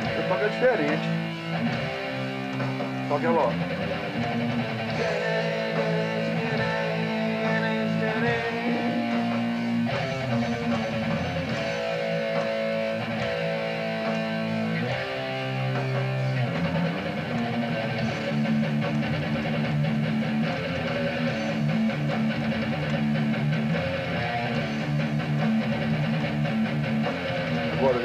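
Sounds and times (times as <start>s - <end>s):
electric guitar chords: 0.0s - 28.0s.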